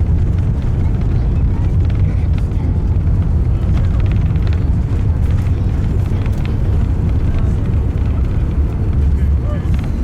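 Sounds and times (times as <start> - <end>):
airliner cabin rumble: 0.0 - 10.0
faint clicks and rattles: 0.1 - 10.0.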